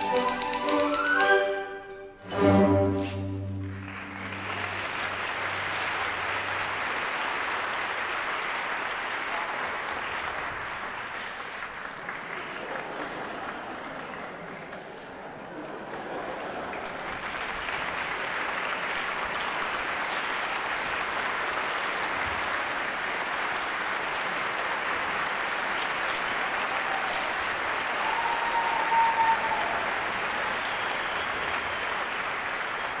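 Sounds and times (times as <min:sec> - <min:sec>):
audience applauding: 0:03.4 - 0:33.0.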